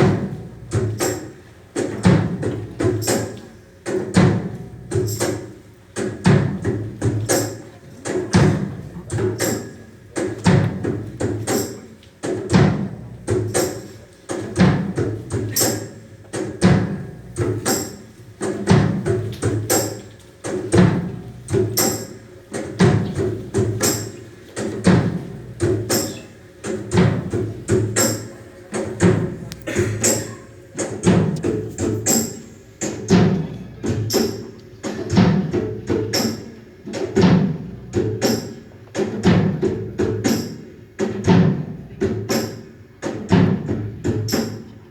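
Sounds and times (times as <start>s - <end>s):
music with percussive beat: 0.0s - 44.9s.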